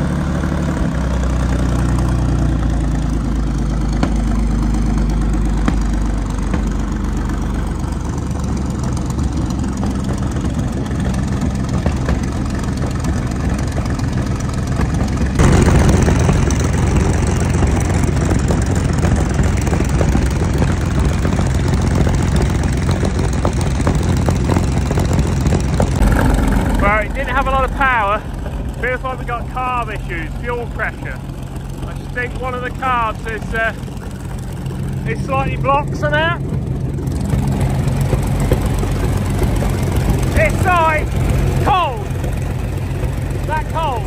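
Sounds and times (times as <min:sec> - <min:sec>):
tank engine running: 0:00.0 - 0:44.0.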